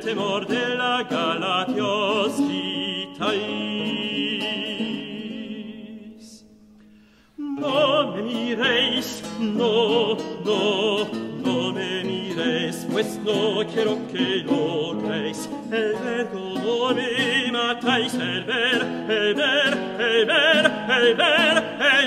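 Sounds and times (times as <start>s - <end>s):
man singing with vibrato: 0.0s - 22.0s
plucked lute and guitar: 0.0s - 22.0s.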